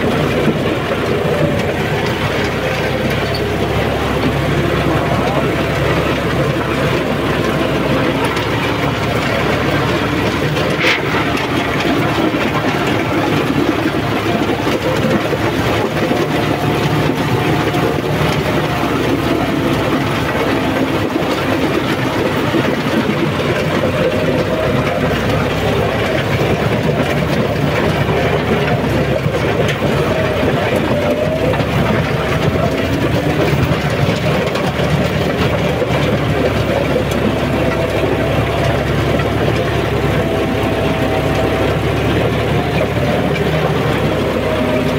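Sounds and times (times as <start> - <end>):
tractor diesel engine: 0.0 - 44.9.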